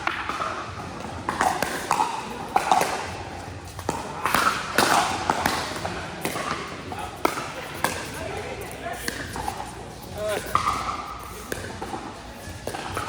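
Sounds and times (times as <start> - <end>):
ball bouncing on court: 0.0 - 13.0
faint voices: 0.9 - 13.0.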